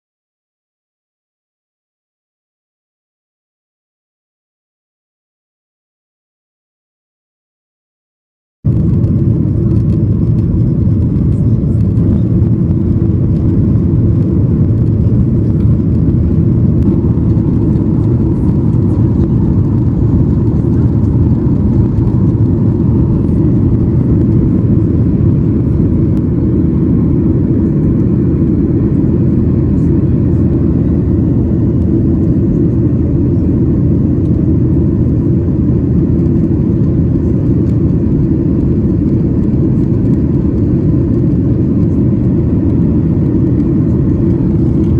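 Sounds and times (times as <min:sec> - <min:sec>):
jet engine roar in cabin: 0:08.7 - 0:44.9.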